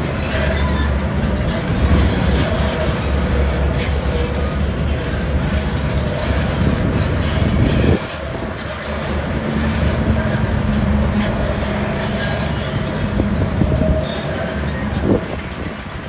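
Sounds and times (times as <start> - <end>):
heavy diesel machinery rumbling: 0.0 - 16.0.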